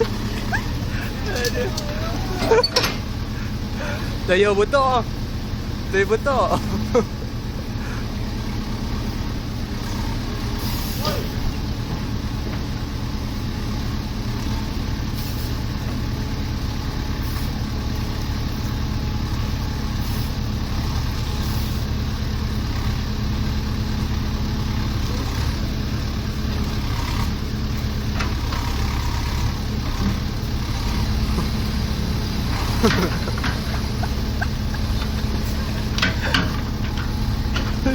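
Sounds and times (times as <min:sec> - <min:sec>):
heavy machine engine idling: 0:00.0 - 0:37.9.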